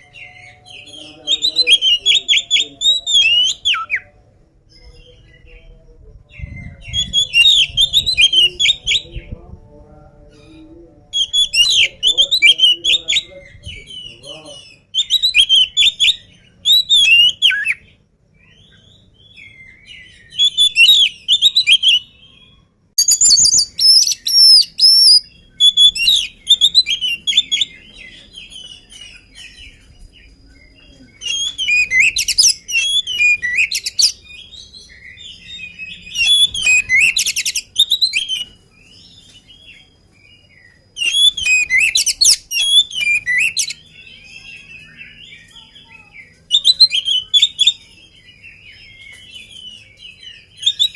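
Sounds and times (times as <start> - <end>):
bird singing whistles and chatter: 0.0 - 9.5, 10.2 - 50.9.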